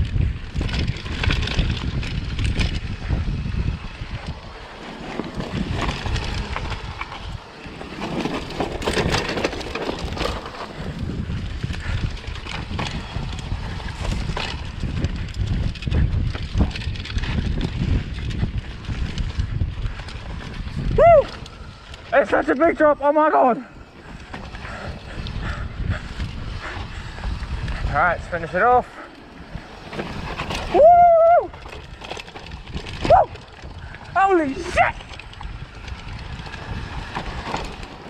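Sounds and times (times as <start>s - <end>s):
bike rattling over ground: 0.0s - 38.0s
wind buffeting microphone: 0.0s - 38.0s.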